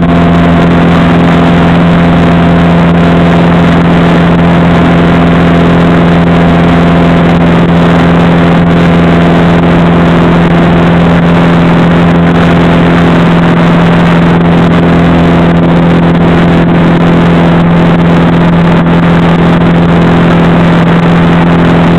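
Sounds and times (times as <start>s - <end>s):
light aircraft engine drone: 0.0s - 21.9s.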